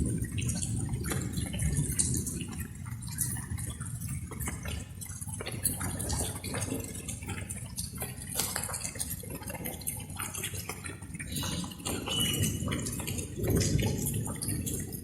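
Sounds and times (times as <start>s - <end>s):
light rainfall: 0.0s - 15.0s
water drops dripping: 0.0s - 15.0s.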